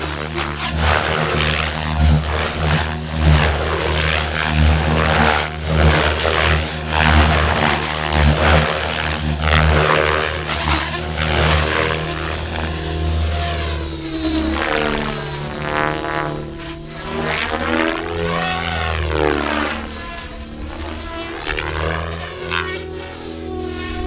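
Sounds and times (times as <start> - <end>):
model helicopter rotor whining: 0.0 - 24.0.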